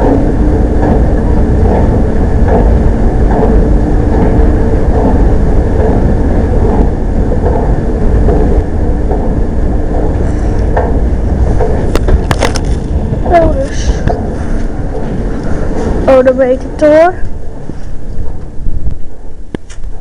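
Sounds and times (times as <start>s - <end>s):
escalator rumbling and humming: 0.0s - 20.0s
escalator steps clicking: 0.0s - 20.0s.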